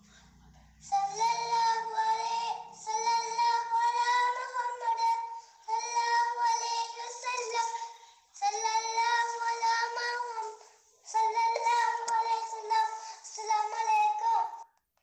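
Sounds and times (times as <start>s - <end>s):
child singing high notes: 0.8s - 14.7s.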